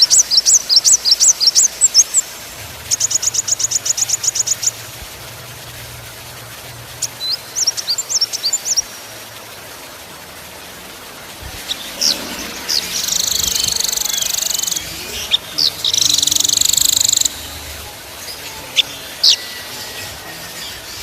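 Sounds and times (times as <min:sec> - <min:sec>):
songbird singing: 0:00.0 - 0:05.8, 0:06.9 - 0:10.0, 0:10.9 - 0:21.0.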